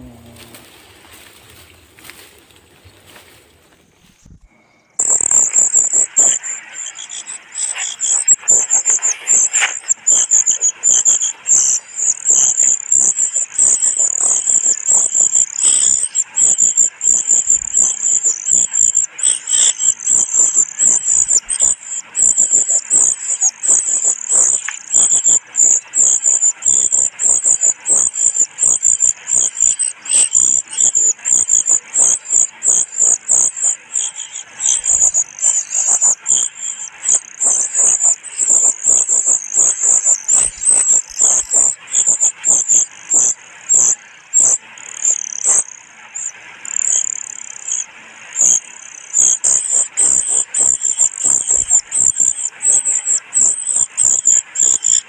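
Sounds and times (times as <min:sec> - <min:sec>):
chick begging calls: 0:05.0 - 0:55.0.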